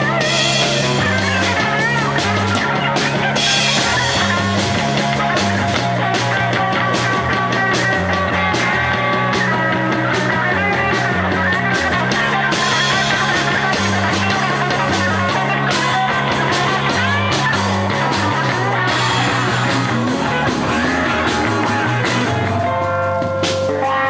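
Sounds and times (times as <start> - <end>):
rock music with electric guitar: 0.0 - 24.0.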